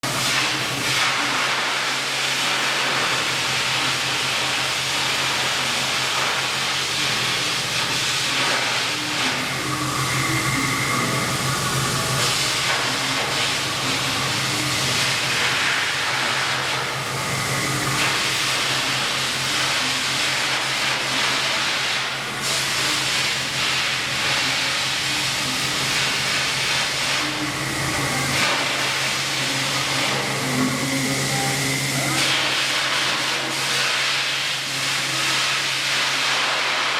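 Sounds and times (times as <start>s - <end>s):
machine low hum: 0.0s - 35.6s
milling machine cutting hiss: 0.0s - 36.9s.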